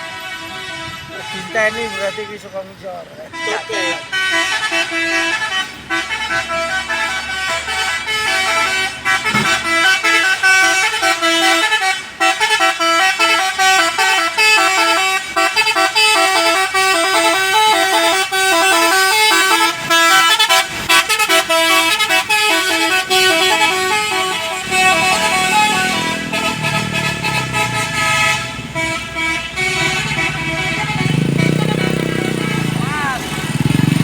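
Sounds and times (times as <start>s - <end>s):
multi-tone air horn melody: 0.0s - 2.6s, 3.2s - 34.0s.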